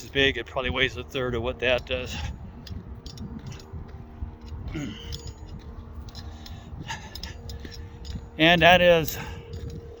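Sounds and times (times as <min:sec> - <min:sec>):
faint steady hum: 0:00.0 - 0:10.0
wind buffeting microphone: 0:00.0 - 0:10.0.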